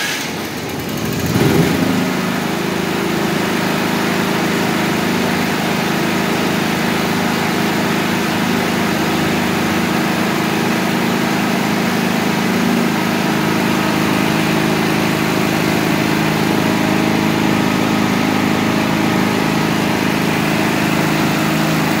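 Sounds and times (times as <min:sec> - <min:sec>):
generator engine running: 0:00.0 - 0:22.0.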